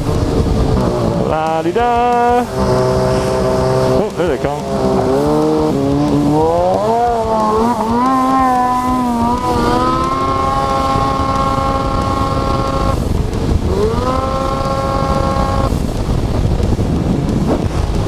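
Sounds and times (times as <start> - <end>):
constant rushing noise: 0.0 - 18.0
snowmobile engine revving: 0.0 - 18.0.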